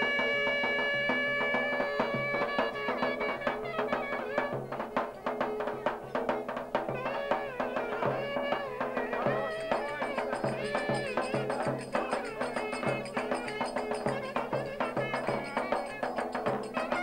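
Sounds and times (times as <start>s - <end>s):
reed wind instrument melody: 0.0s - 17.0s.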